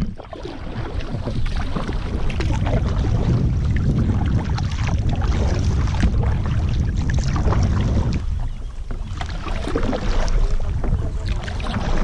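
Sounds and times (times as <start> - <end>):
paddle splashing in water: 0.0 - 12.0
water lapping against hull: 0.0 - 12.0
wind rumbling on microphone: 0.0 - 12.0.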